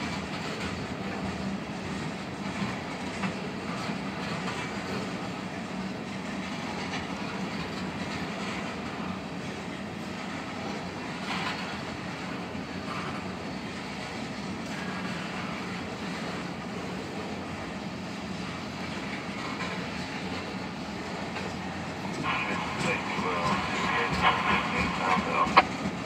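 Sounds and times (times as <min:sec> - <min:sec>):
freight train wheels on rail: 0:00.0 - 0:26.0.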